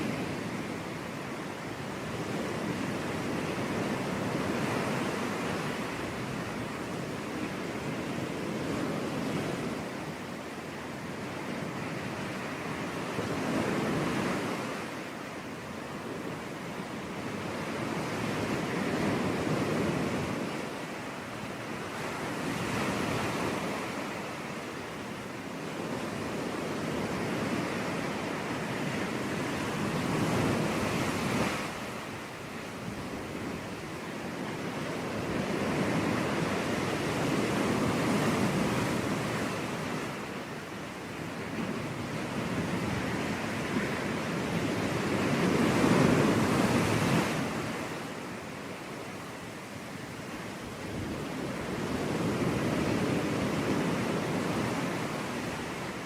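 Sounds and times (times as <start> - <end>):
sea waves washing onto beach: 0.0 - 56.0.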